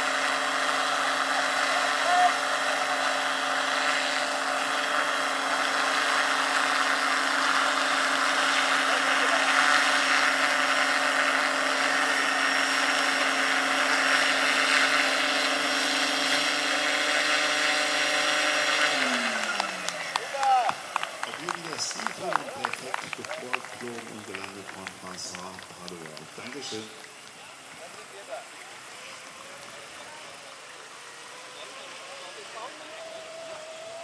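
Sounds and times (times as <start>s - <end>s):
model helicopter motor whine: 0.0s - 34.0s
rotor whoosh: 0.0s - 34.0s.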